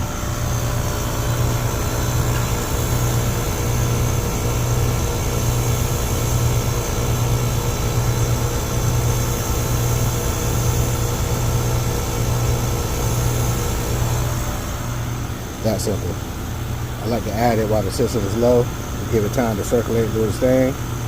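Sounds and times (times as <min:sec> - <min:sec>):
compressor hum: 0:00.0 - 0:21.0
condenser fan rushing: 0:00.0 - 0:21.0.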